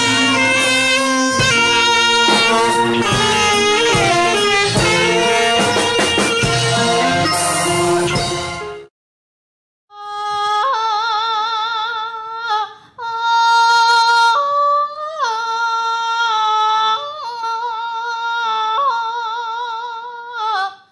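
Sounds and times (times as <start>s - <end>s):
woman singing with vibrato: 0.0s - 8.1s, 10.0s - 20.9s.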